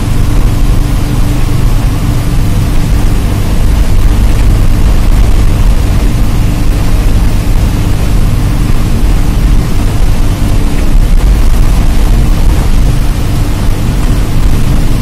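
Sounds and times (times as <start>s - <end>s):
bus diesel engine running: 0.0s - 15.0s
road and wind noise: 0.0s - 15.0s.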